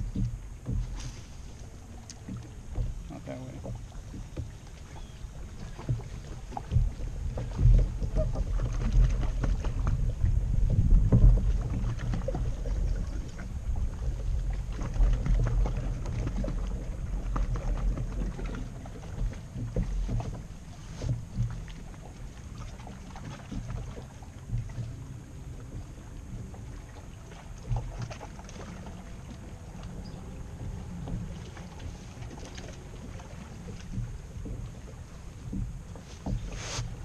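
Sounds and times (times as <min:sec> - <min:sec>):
water lapping against plastic hull: 0:00.0 - 0:37.0
low rumble: 0:05.9 - 0:37.0.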